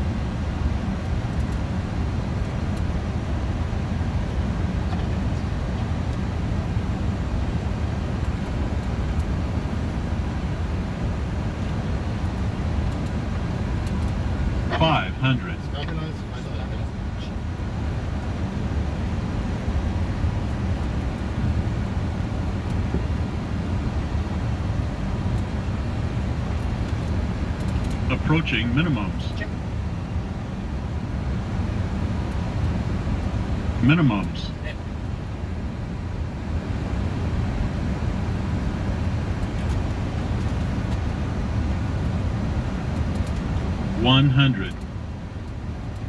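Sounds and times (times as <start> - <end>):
airflow and engine noise: 0.0 - 46.0.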